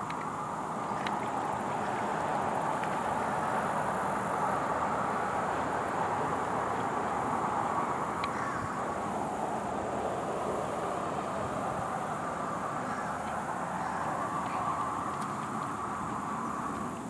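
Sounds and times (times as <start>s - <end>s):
distant jet airliner rumble: 0.0s - 17.0s.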